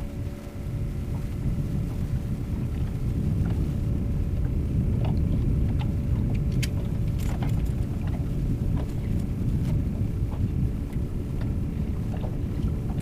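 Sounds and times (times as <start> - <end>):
boat motor running: 0.0 - 13.0
water splashes: 0.0 - 13.0
wind on microphone: 0.0 - 13.0.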